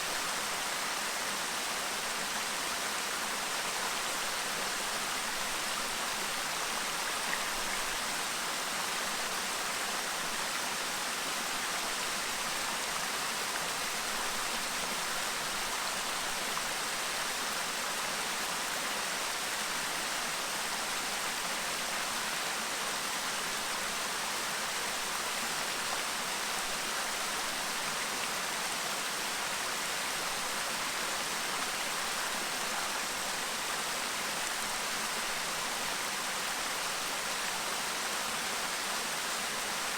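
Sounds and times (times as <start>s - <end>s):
stream babbling: 0.2s - 39.9s.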